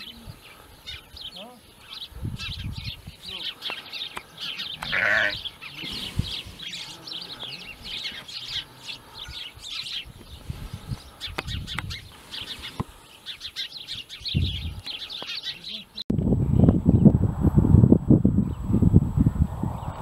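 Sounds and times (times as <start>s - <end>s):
small birds chirping: 0.0s - 17.1s.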